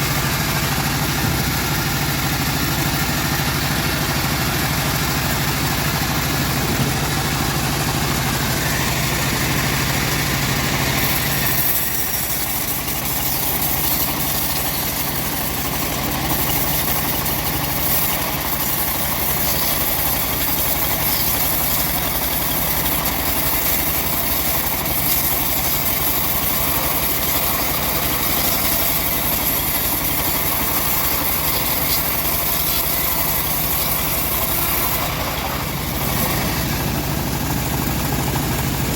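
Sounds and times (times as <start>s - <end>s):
saw hissing through log: 0.0s - 38.9s
sawmill engine running: 0.0s - 38.9s.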